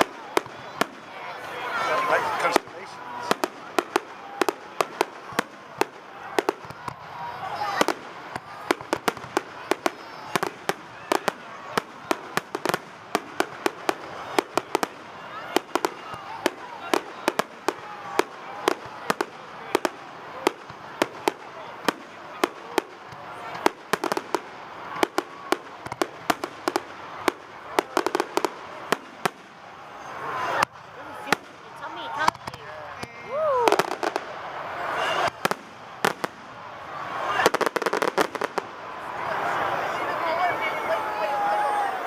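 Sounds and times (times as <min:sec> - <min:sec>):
fireworks bangs and cracks: 0:00.0 - 0:42.0.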